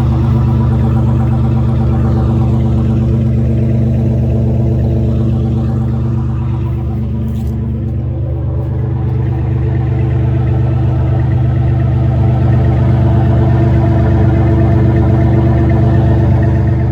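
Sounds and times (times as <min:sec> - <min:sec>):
engine rumbling through open exhaust: 0:00.0 - 0:16.9.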